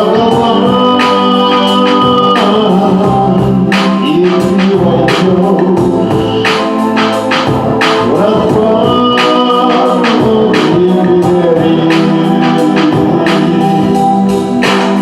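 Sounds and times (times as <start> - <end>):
organ-like keyboard chords: 0.0 - 15.0
steady drum beat: 0.0 - 15.0.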